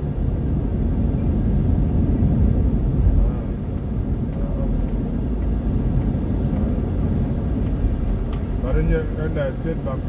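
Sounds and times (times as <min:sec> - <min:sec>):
car driving interior rumble: 0:00.0 - 0:10.0.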